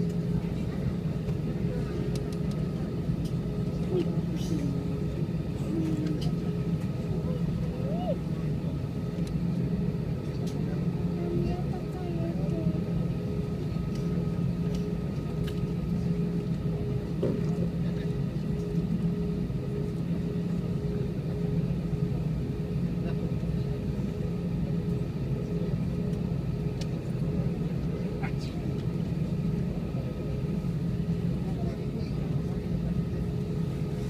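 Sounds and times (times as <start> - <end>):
jet engines humming: 0.0 - 34.0.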